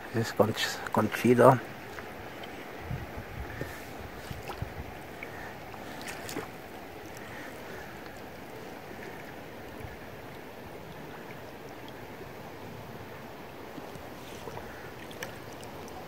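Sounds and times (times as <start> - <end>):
river water lapping: 0.0 - 16.0.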